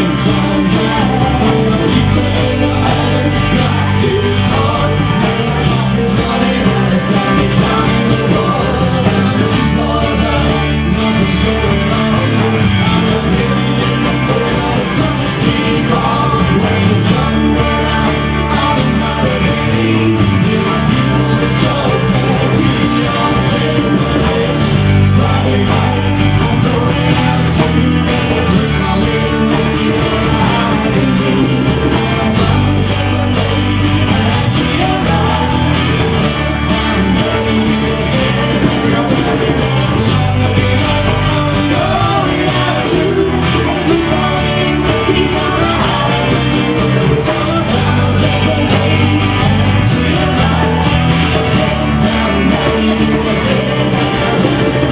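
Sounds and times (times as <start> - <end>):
rock band playing: 0.0 - 54.9
strummed guitar: 0.0 - 54.9.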